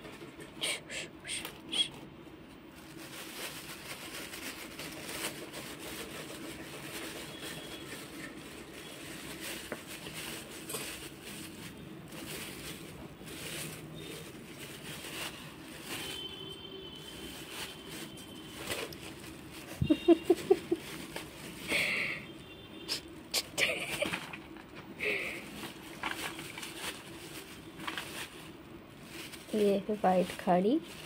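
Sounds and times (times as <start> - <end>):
plastic bags crinkling: 2.6 - 31.0.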